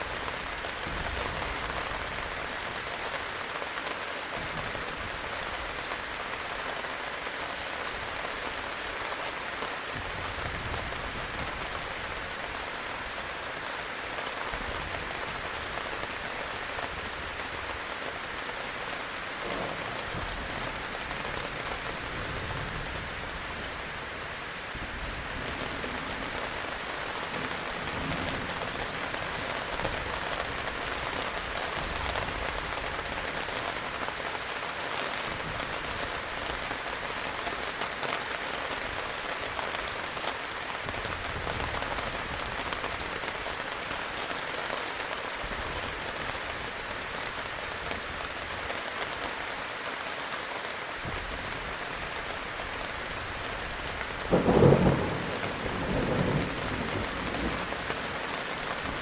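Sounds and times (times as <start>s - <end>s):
heavy rain on hard surface: 0.0s - 59.0s.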